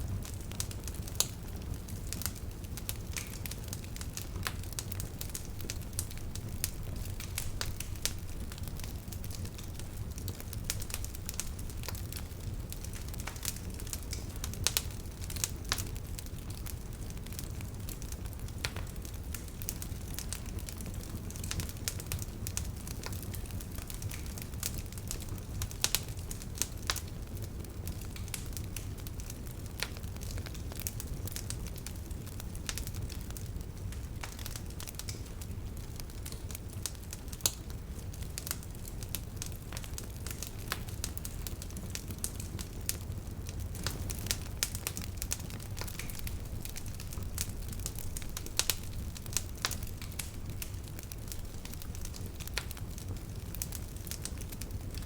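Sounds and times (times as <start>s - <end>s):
bonfire crackling: 0.0s - 55.0s
burning wood pops and snaps: 0.2s - 55.0s.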